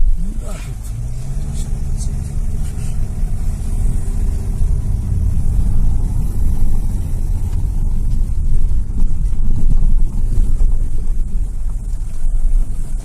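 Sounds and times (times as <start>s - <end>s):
car engine hum: 0.0s - 13.0s
road noise rumble: 0.0s - 13.0s.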